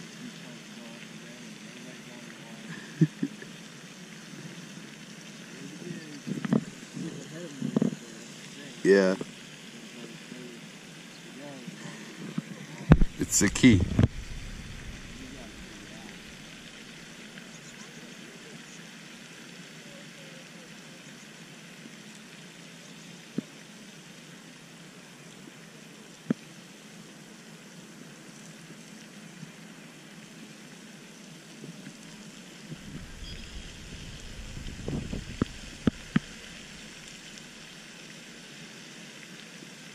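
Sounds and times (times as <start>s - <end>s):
steady outdoor background hiss: 0.0s - 39.9s.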